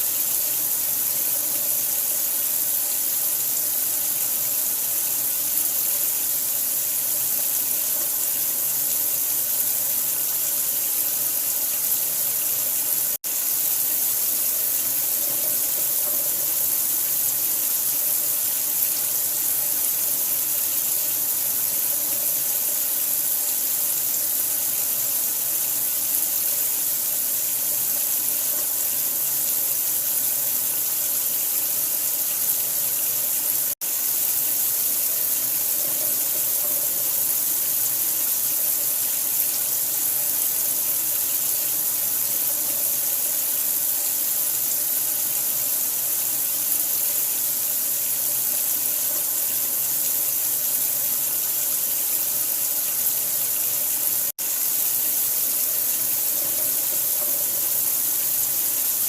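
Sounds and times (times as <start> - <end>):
running water hiss: 0.0 - 59.0.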